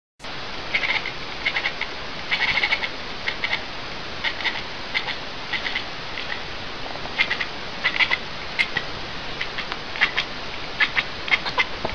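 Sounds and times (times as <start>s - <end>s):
steady hiss: 0.2s - 11.9s
animal clicking chattering calls: 0.8s - 3.6s, 4.2s - 6.4s, 7.2s - 11.7s.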